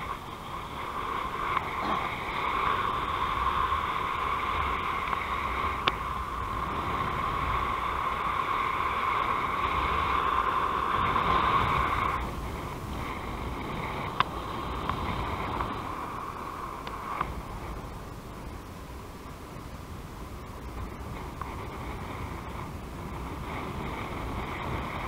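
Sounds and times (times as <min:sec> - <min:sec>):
airflow rushing over camera: 0:00.0 - 0:25.0.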